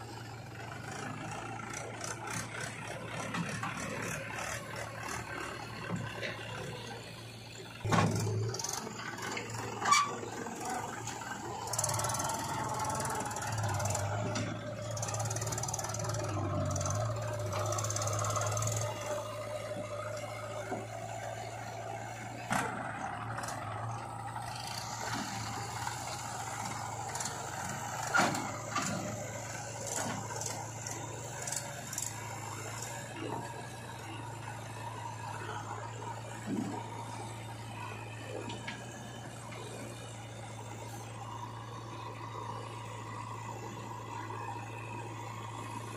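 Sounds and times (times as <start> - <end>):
diesel engines humming: 0.0 - 45.9
high engine whine: 0.0 - 45.9.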